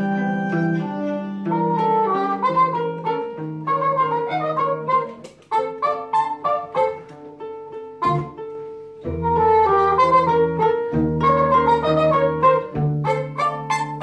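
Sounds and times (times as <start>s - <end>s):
plucked notes: 0.0s - 14.0s
small band playing a waltz: 0.0s - 14.0s.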